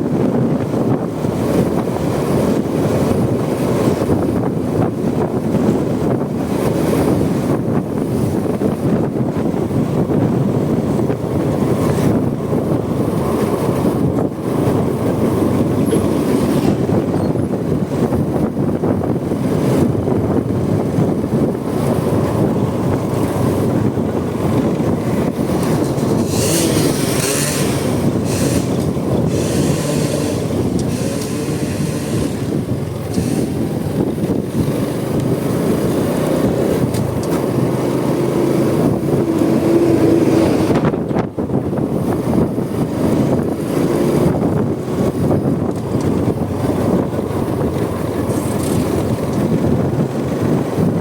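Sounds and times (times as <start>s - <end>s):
motorcycle engine: 0.0s - 51.0s
road noise: 0.0s - 51.0s
wind buffeting microphone: 0.0s - 51.0s.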